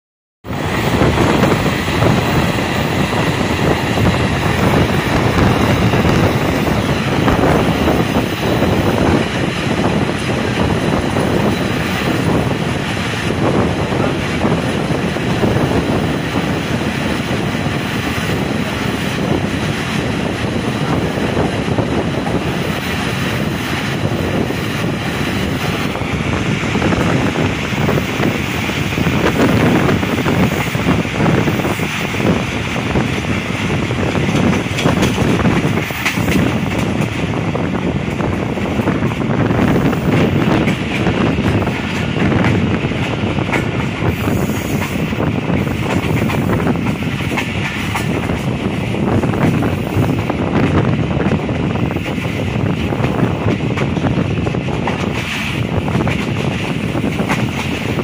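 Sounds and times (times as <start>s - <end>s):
rush of wind: 0.4s - 58.0s
train wheels rumbling on rails: 0.4s - 58.0s.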